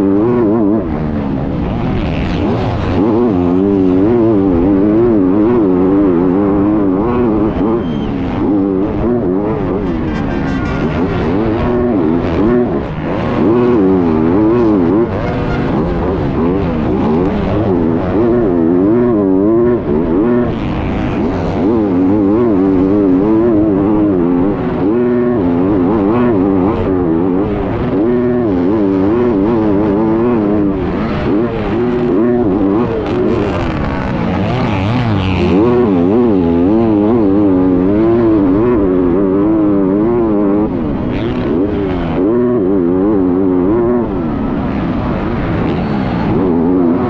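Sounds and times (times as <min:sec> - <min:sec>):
motocross bike engine at full throttle: 0:00.0 - 0:47.0.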